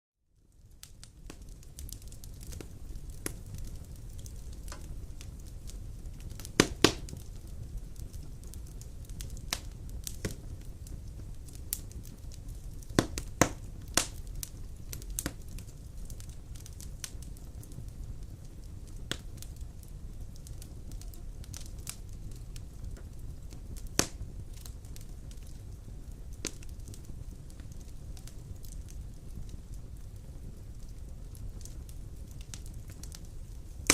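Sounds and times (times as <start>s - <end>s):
low rumble of flame: 0.2s - 33.9s
wood fire crackling: 0.3s - 33.9s
fire popping and snapping: 0.4s - 33.9s.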